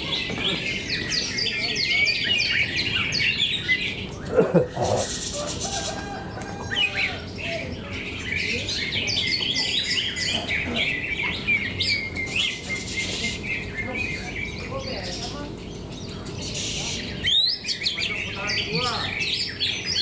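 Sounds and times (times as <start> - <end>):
chorus of birds singing: 0.0 - 20.0.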